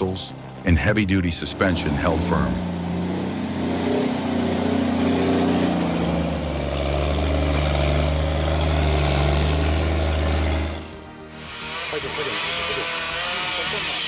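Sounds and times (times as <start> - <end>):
diesel engine labouring: 0.0 - 14.0.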